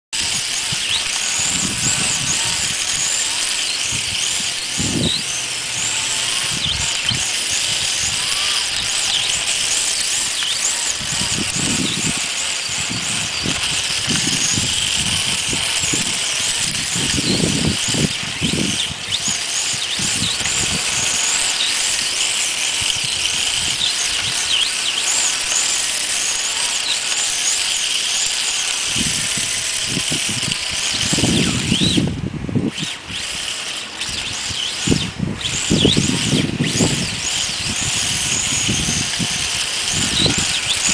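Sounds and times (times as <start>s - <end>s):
electric motor whining: 0.2s - 40.9s.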